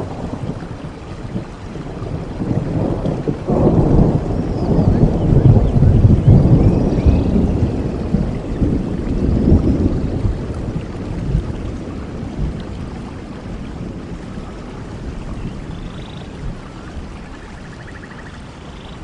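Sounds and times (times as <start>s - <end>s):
steady rain: 0.0s - 19.0s
thunder rumble: 0.0s - 19.0s.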